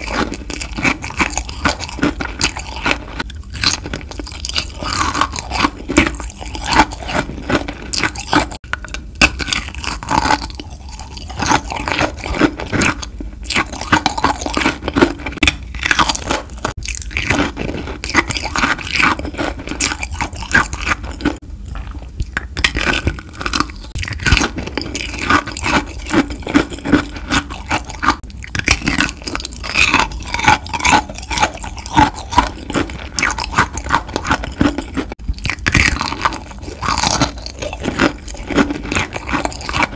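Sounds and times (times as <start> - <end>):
crisp crunching of candy: 0.0 - 39.9.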